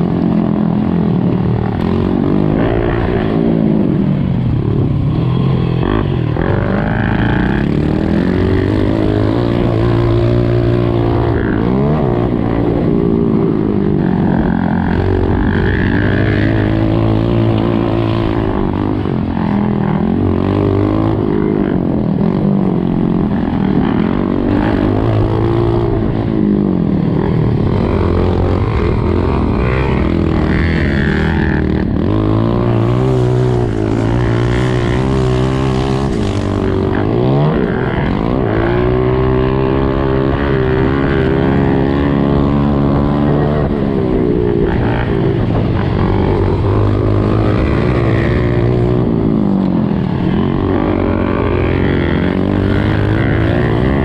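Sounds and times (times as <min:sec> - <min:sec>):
dirt bike engine revving: 0:00.0 - 0:54.0
second dirt bike engine: 0:00.0 - 0:54.0.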